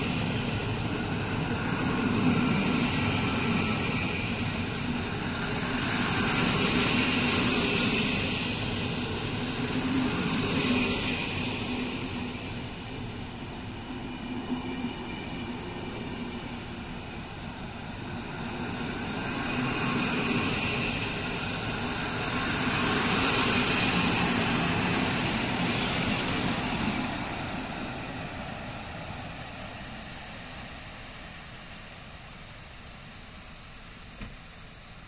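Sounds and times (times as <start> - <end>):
train wheels rumbling on rails: 0.0 - 31.3.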